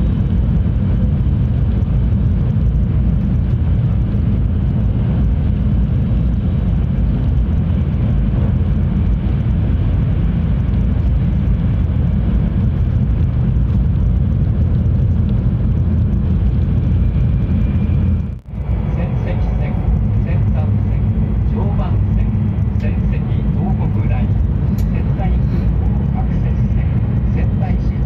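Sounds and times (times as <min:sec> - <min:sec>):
train running low rumble: 0:00.0 - 0:28.0.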